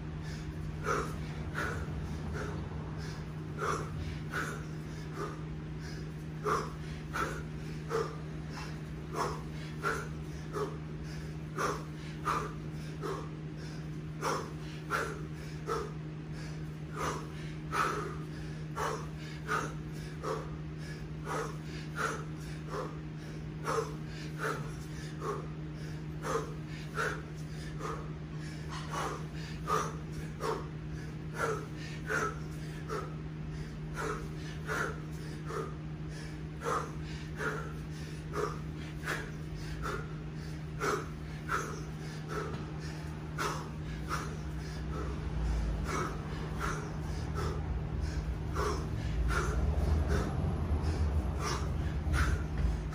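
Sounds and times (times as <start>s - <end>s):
person breathing hard: 0.0s - 52.9s
steady low hum: 0.0s - 52.9s.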